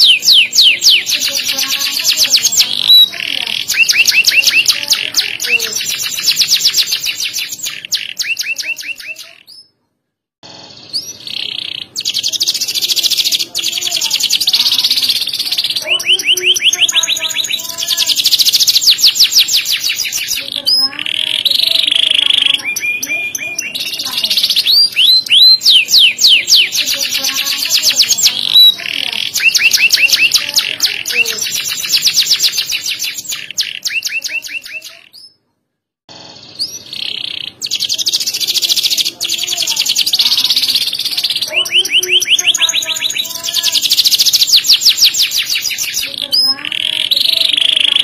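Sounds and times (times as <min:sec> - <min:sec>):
canary singing trills: 0:00.0 - 0:09.8, 0:10.4 - 0:35.5, 0:36.1 - 0:48.0.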